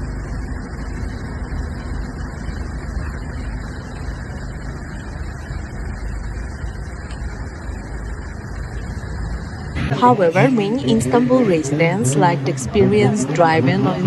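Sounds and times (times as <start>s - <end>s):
car engine and road noise: 0.0s - 14.0s
faint steady hum: 0.0s - 14.0s.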